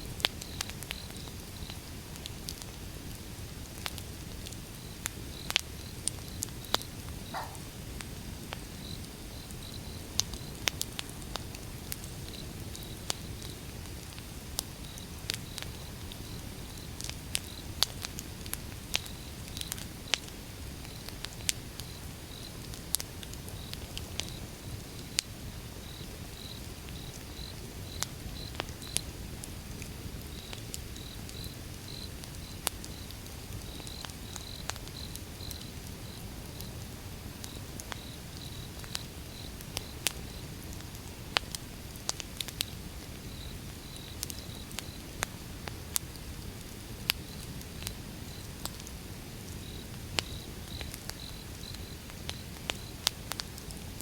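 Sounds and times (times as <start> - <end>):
bonfire crackling: 0.0 - 54.0.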